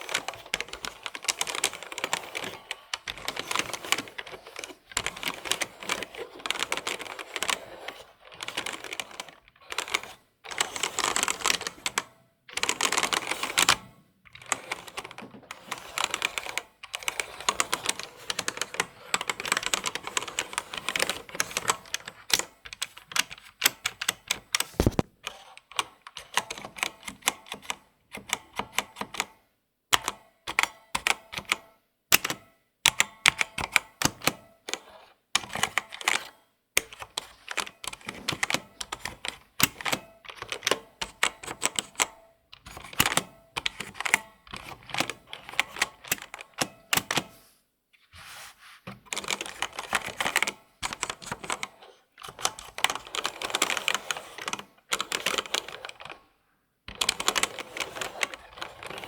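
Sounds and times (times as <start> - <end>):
typing on computer keyboard: 0.0 - 47.3, 49.1 - 56.3, 56.9 - 59.0.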